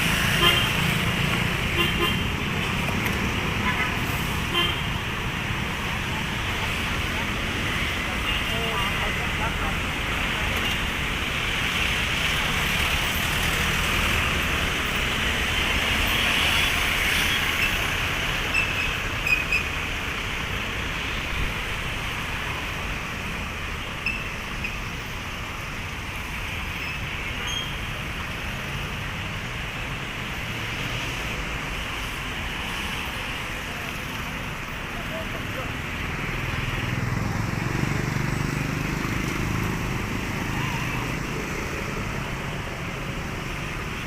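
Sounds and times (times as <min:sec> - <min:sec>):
passing traffic: 0:00.0 - 0:44.0.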